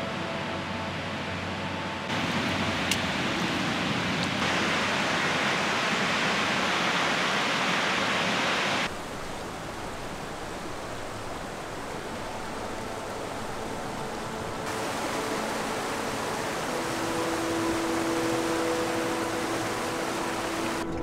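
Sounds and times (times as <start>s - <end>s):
softer river flow: 0.0s - 21.0s
waterfall and rapids rushing: 0.0s - 21.0s.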